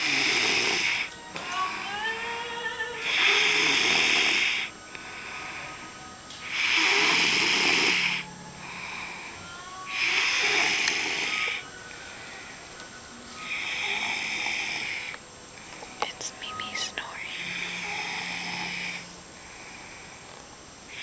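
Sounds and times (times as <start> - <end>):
person snoring: 0.0 - 12.6, 13.4 - 16.0, 16.7 - 21.0.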